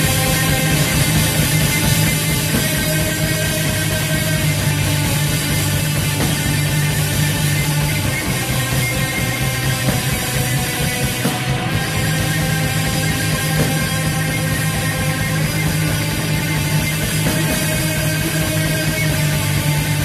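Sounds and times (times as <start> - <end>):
bass guitar: 0.0 - 20.0
distorted guitars: 0.0 - 20.0
drums: 0.0 - 20.0.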